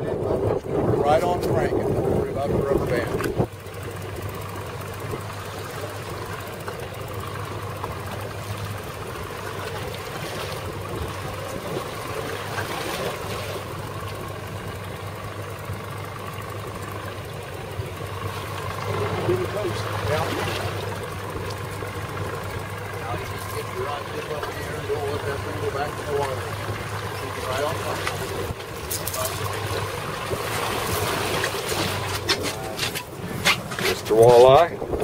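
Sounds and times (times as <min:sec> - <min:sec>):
outboard motor idling: 0:00.0 - 0:35.0
wind and water noise: 0:00.0 - 0:35.0.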